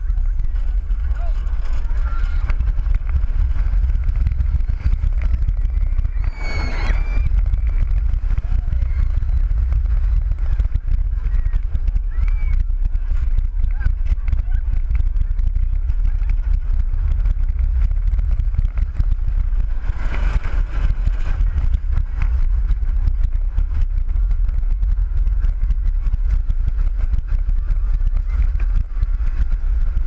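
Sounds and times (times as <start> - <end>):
roller coaster rattling on track: 0.0 - 30.0
wind buffeting microphone: 0.0 - 30.0.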